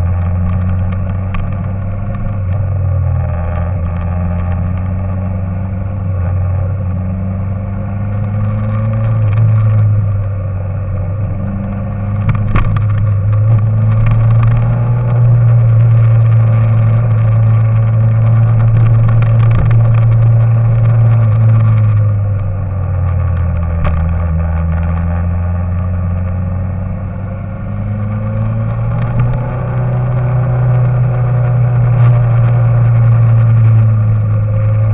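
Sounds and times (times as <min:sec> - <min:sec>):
engine running low: 0:00.0 - 0:34.9.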